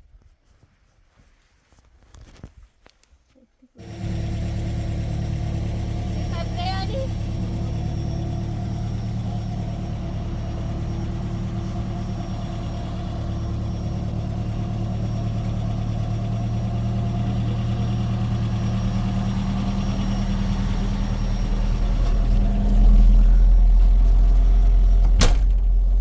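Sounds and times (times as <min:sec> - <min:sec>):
vehicle engine humming: 0:03.8 - 0:26.0.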